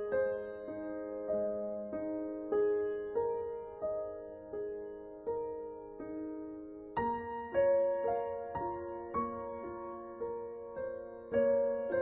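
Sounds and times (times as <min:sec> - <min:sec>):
slow soft piano melody: 0:00.0 - 0:12.0.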